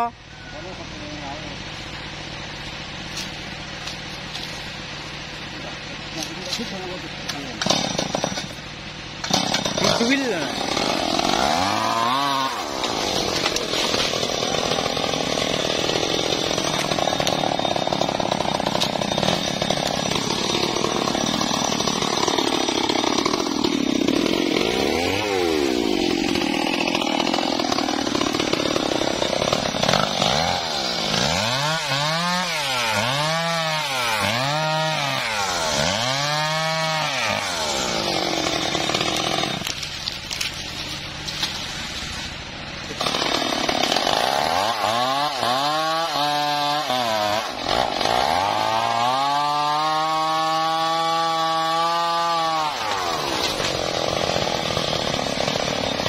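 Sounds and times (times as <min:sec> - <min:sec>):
chainsaw revving: 0:05.7 - 0:40.5, 0:42.8 - 0:56.0.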